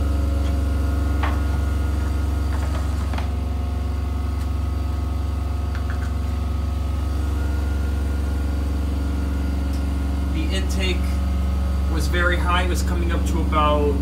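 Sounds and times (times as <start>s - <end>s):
machine droning: 0.0s - 14.0s.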